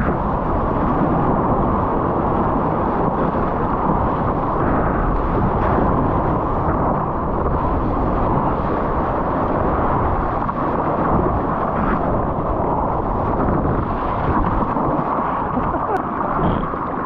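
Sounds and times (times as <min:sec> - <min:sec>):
rush of water spray: 0:00.0 - 0:17.0
wind noise on microphone: 0:00.0 - 0:17.0.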